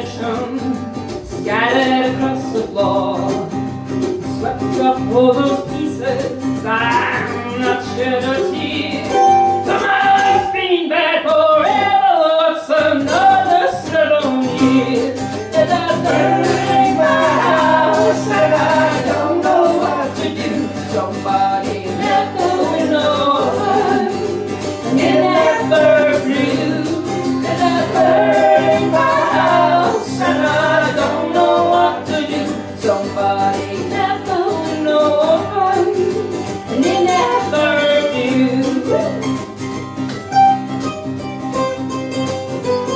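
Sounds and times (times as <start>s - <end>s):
guitar: 0.0s - 42.9s
people singing: 4.3s - 39.2s.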